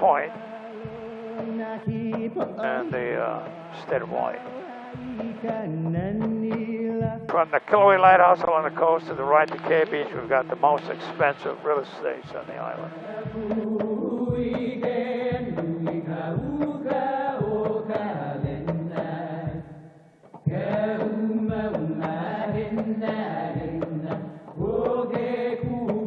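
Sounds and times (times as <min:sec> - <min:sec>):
music with chanted vocals: 0:00.0 - 0:26.0.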